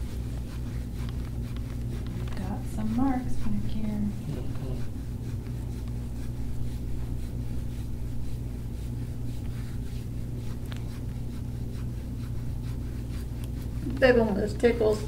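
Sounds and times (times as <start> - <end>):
tool scraping skin: 0.0 - 14.8
low hum: 0.0 - 15.0.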